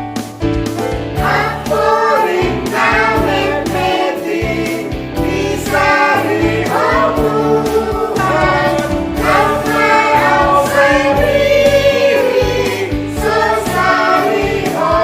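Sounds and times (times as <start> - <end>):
keyboard accompaniment: 0.0 - 15.0
choir singing a hymn: 1.2 - 15.0.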